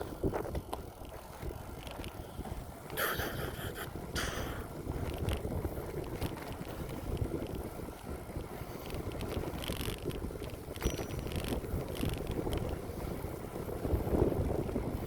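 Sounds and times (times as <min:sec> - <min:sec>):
bicycle rattles: 0:00.0 - 0:15.0
bicycle tyres rolling on path: 0:00.0 - 0:15.0
wind buffeting microphone: 0:00.0 - 0:15.0.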